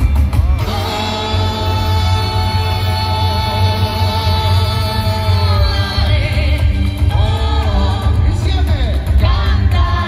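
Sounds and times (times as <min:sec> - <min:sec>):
singing voice: 0:00.1 - 0:10.0.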